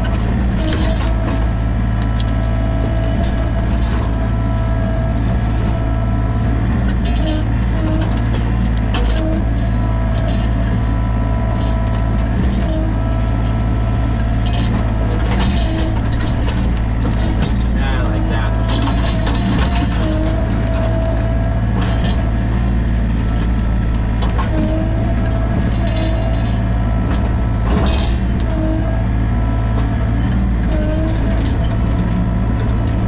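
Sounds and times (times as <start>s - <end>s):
diesel engine running under load: 0.0s - 33.0s
hydraulic whine: 0.0s - 33.0s.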